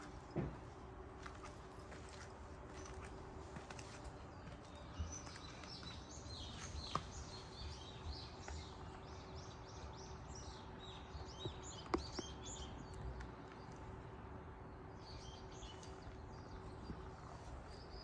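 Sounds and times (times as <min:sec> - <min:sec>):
small birds chirping and twittering: 0:01.3 - 0:18.0.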